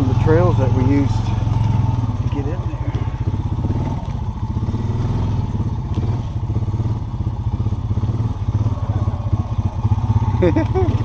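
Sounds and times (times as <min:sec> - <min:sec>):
motorbike engine rumbling: 0:00.0 - 0:11.0.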